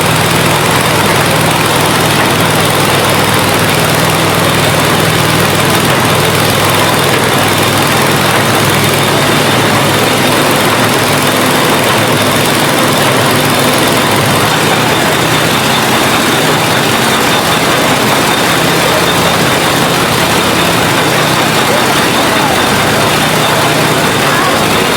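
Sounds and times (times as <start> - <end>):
heavy engine running: 0.0 - 24.9.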